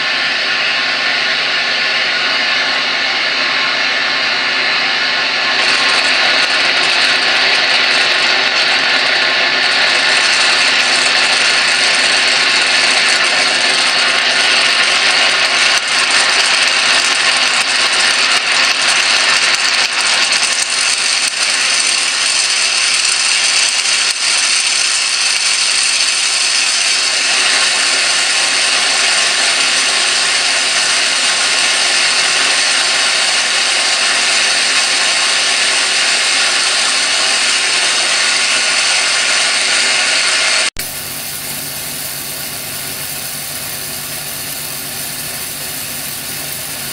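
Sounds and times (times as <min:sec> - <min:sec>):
hum: 0:00.0 - 0:46.9
electric arc crackling buzz: 0:05.4 - 0:46.9.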